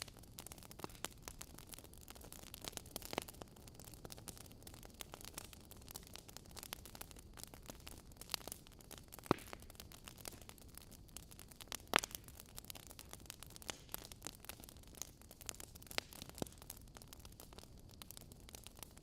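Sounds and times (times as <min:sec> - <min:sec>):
loud pops from fire: 0:00.0 - 0:19.0
wood fire crackling: 0:00.0 - 0:19.0.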